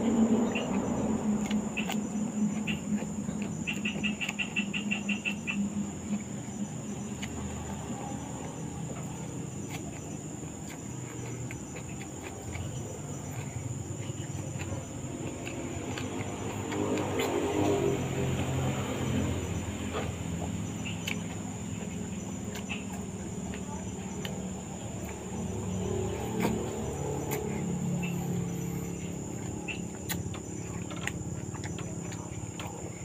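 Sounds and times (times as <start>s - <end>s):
chewing and mouth clicks: 0.0s - 33.0s
crickets trilling: 0.0s - 33.0s.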